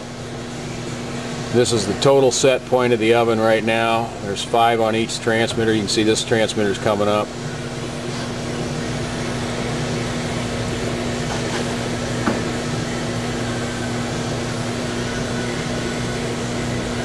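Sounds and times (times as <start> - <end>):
machine hum with low tone: 0.0 - 17.0.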